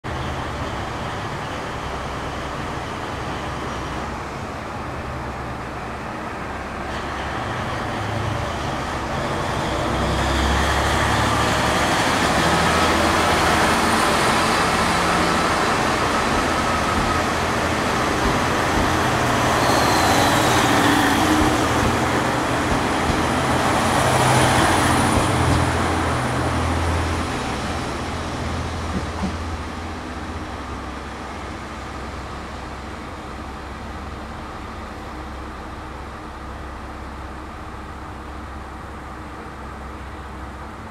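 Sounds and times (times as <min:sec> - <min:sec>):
diesel railcar engine: 0:00.0 - 0:40.9.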